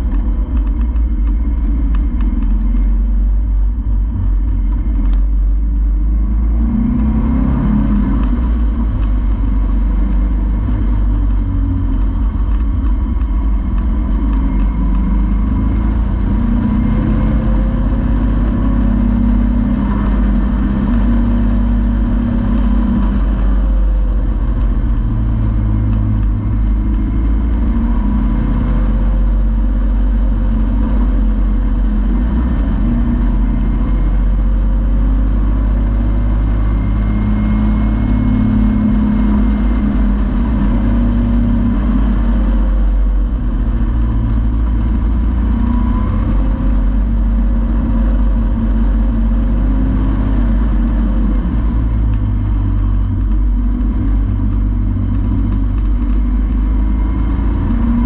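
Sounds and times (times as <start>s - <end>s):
sports car engine under load: 0.0s - 58.0s
wind and road rumble: 0.0s - 58.0s.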